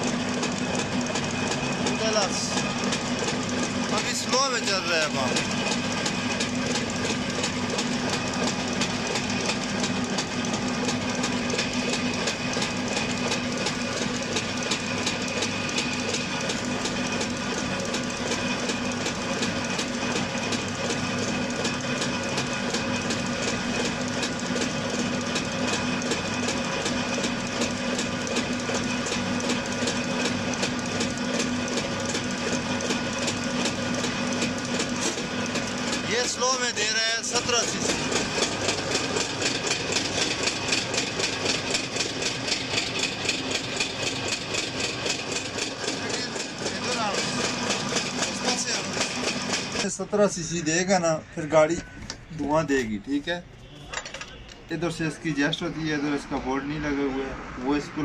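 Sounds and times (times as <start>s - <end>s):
diesel injection pump clattering: 0.0s - 56.2s.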